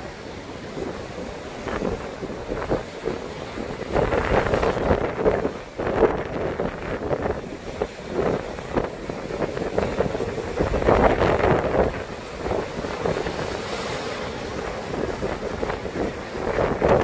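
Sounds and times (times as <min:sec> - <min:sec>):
sea waves breaking over rocks: 0:00.0 - 0:17.0
wind buffeting microphone: 0:00.0 - 0:17.0.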